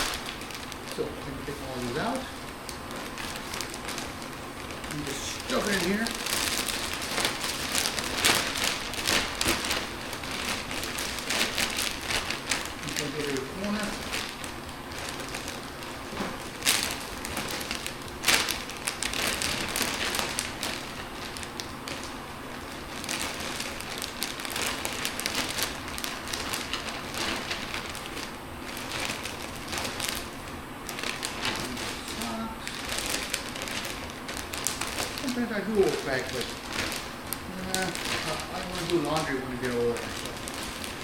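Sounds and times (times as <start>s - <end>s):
plastic bag crinkling: 0.0s - 41.0s.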